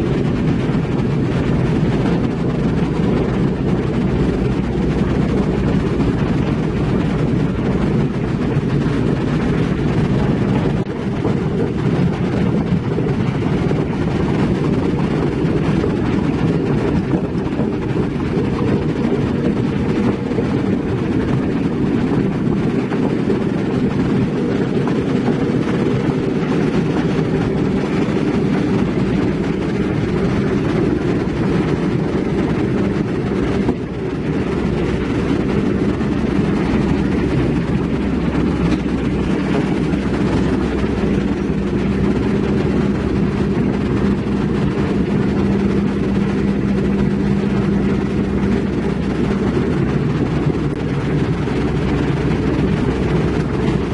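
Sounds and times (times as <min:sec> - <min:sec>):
diesel machinery rumbling: 0:00.0 - 0:53.9.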